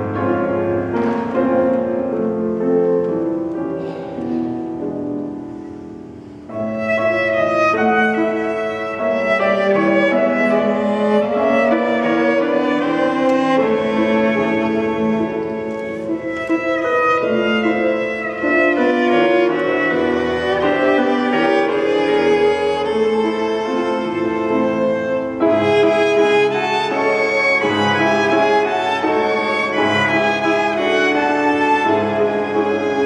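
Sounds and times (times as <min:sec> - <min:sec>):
bowed violin: 0:00.0 - 0:33.0
cello: 0:00.0 - 0:33.0
grand piano: 0:00.0 - 0:33.0.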